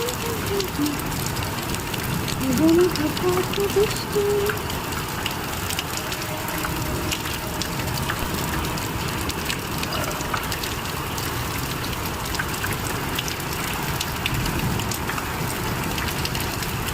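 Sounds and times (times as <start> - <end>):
rain falling: 0.0 - 16.9
raindrop ticks: 0.0 - 16.9.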